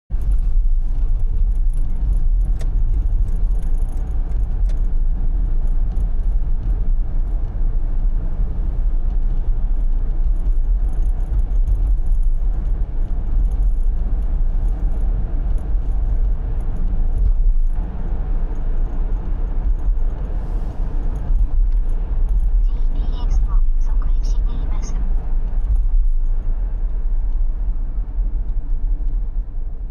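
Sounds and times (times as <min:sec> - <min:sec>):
road and engine rumble: 0:00.1 - 0:29.9.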